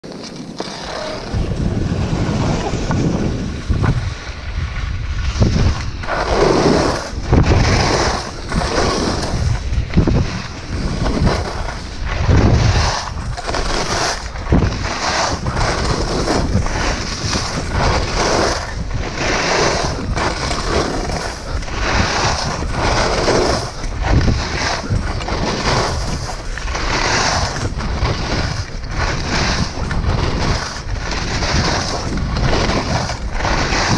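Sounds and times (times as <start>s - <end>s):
skis scraping on snow: 0.0s - 33.9s
wind rushing across microphone: 0.4s - 33.9s.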